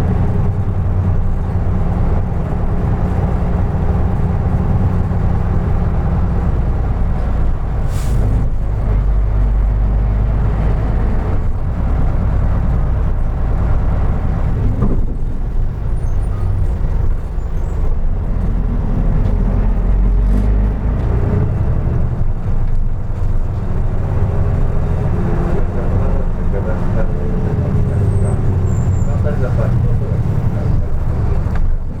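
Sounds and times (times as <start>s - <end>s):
bus diesel engine rumble: 0.0s - 32.0s
road noise: 0.0s - 32.0s.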